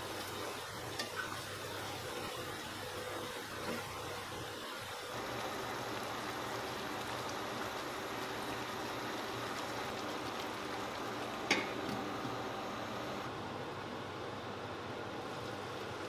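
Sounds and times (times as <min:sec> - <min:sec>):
sauce bubbling in a wok: 0:00.0 - 0:13.3.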